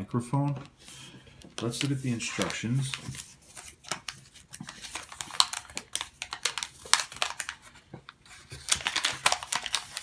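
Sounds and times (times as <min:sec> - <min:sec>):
paper sheet crinkling: 0:01.6 - 0:10.0.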